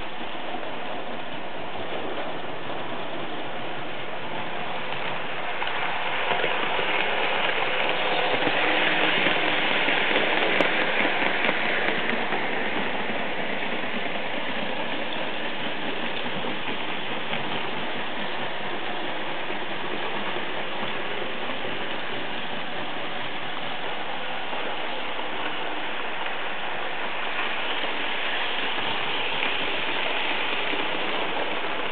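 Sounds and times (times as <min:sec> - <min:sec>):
model train wheels rattling on track: 0:00.1 - 0:31.9.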